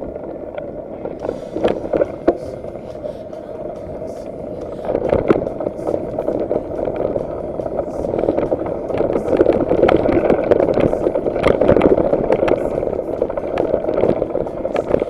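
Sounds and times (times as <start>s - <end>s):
tyres rumbling over dirt: 0.0s - 15.0s
wind buffeting microphone: 0.0s - 15.0s.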